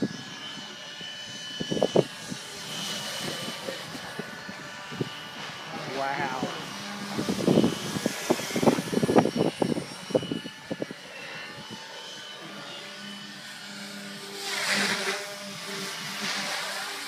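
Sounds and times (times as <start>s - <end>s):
drone rotor whooshes: 0.0s - 17.0s
drone rotors humming: 0.0s - 17.0s.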